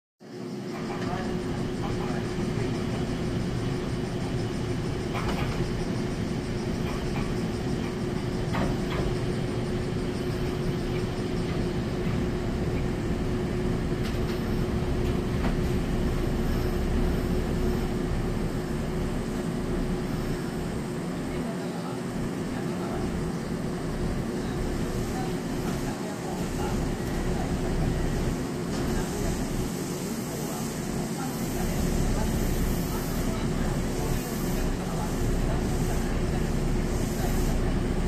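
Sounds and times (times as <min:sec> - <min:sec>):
electric train rumbling: 0:00.3 - 0:38.0.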